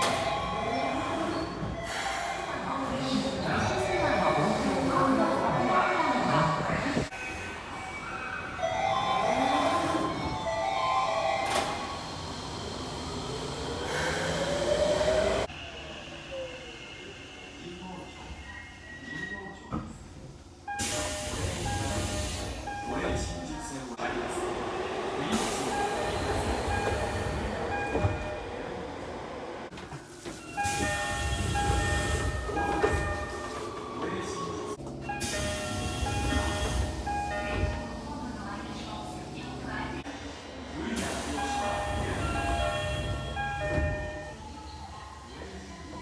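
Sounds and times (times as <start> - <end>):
subway door chimes: 0.0 - 5.8, 7.1 - 15.5, 20.6 - 23.9, 25.4 - 40.0, 41.0 - 46.0
rising whine of train: 3.6 - 18.3, 21.5 - 46.0.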